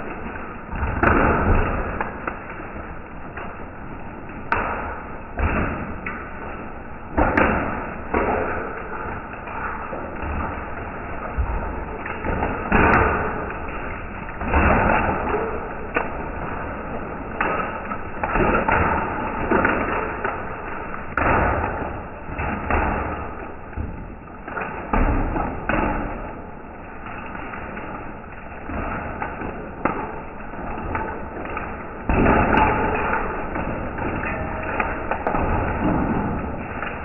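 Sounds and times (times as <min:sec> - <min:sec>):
hail and rain on concrete: 0:00.0 - 0:37.0
heavier hail impacts: 0:00.0 - 0:37.0.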